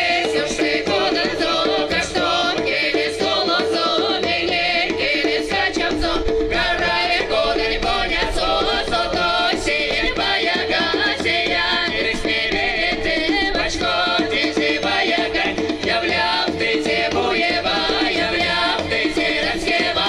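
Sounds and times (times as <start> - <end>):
djembe hand drum: 0.0 - 20.0
mixed voices singing folk song: 0.0 - 20.0.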